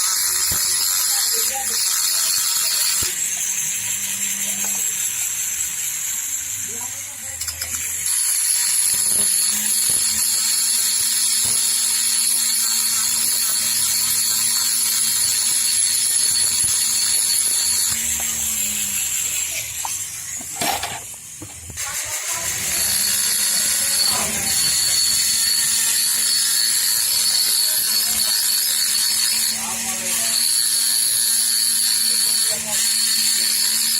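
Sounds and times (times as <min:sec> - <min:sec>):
power tool motor whining: 0:00.0 - 0:33.9.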